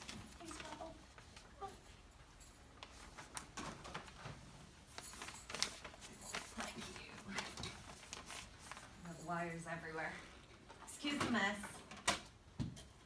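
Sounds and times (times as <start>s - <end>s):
cables rustling: 0.0s - 11.0s.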